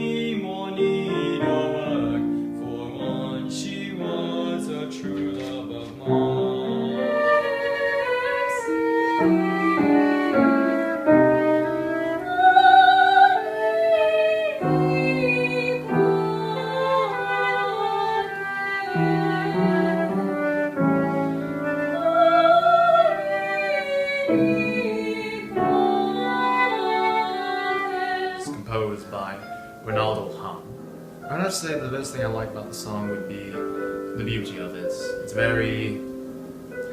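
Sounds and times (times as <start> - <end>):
classical singing with vibrato: 0.0 - 36.9
piano: 0.0 - 36.9.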